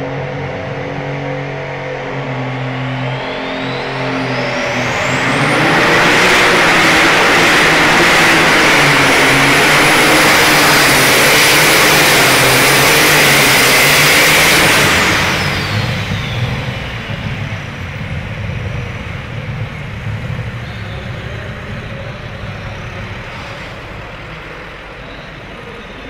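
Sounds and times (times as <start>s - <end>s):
tractor engine revving: 0.0s - 26.0s
turbocharger whistle: 1.5s - 26.0s.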